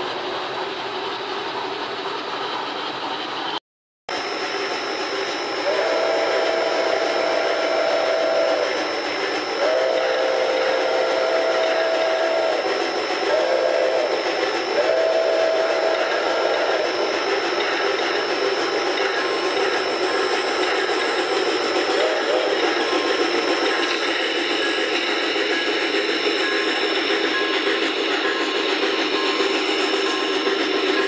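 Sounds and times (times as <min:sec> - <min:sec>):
model locomotive chime whistle: 0:04.1 - 0:31.0.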